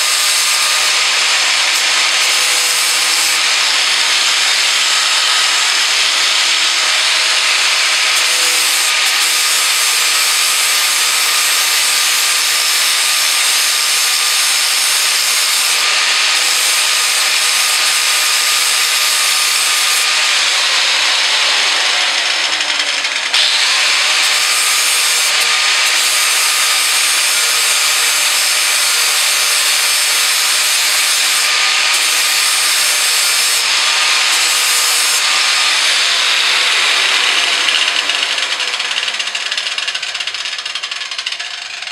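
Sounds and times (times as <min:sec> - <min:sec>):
angle grinder grinding metal: 0:00.0 - 0:41.9.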